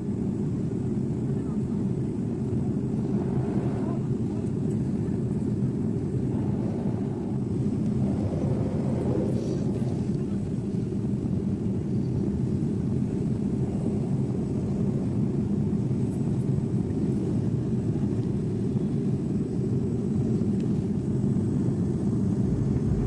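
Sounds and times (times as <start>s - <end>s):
jet airliner cabin drone: 0.0s - 23.0s.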